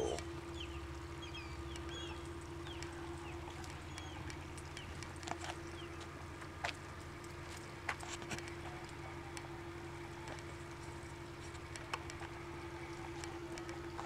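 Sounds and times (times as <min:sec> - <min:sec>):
low machine hum: 0:00.0 - 0:14.0
light clicks and taps: 0:01.7 - 0:09.5, 0:10.2 - 0:14.0.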